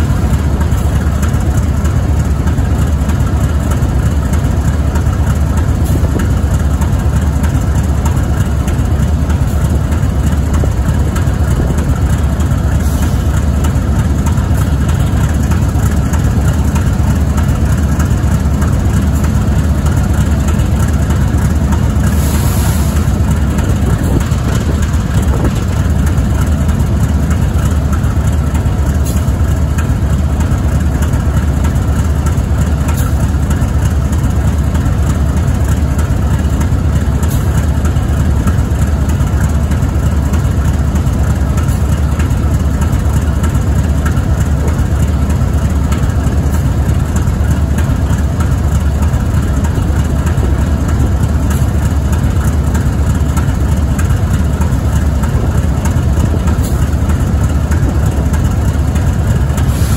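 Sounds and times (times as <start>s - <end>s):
locomotive diesel engine idling: 0.0s - 59.9s.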